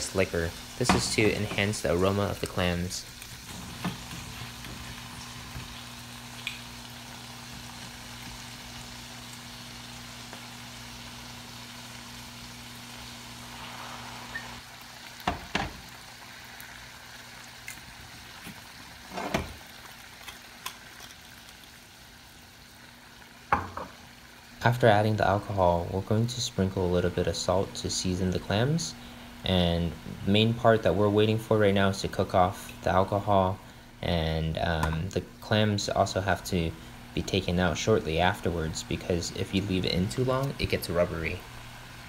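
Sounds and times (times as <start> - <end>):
clams sizzling in butter: 0.0 - 31.8, 32.6 - 42.0.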